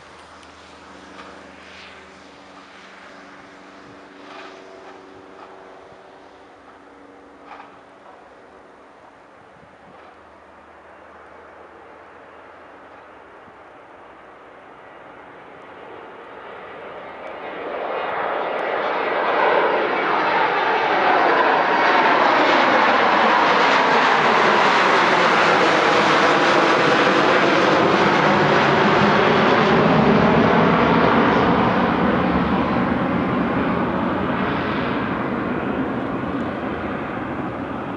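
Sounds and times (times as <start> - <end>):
jet engines at take-off: 0.0 - 37.9.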